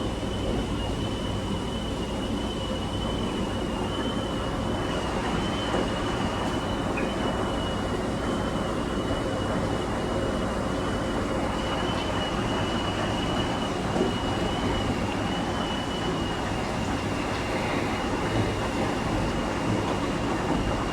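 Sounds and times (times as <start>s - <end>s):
laundry machine rumbling and whining: 0.0s - 20.9s.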